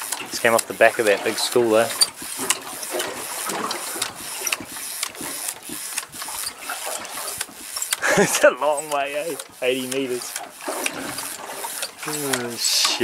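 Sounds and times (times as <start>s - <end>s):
fishing reel whirring and clicking: 0.0s - 13.0s.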